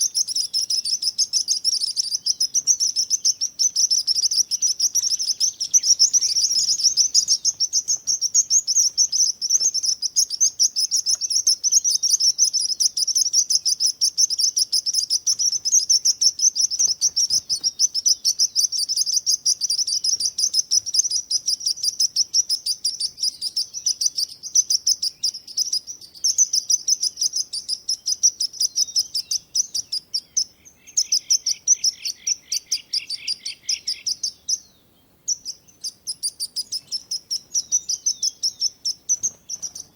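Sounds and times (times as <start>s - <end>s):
lower-pitched bird chirps: 0.0s - 39.9s
songbirds chirping: 0.0s - 39.9s.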